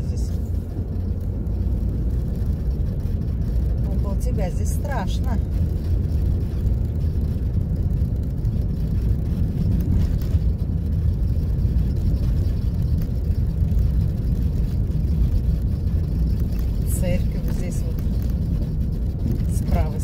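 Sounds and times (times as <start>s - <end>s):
car rumbling inside cabin: 0.0s - 20.0s.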